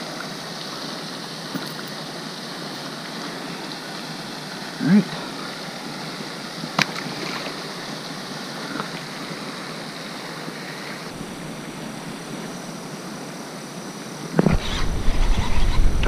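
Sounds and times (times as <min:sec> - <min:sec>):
water at pond edge: 0:00.0 - 0:16.0
wind: 0:00.0 - 0:16.0.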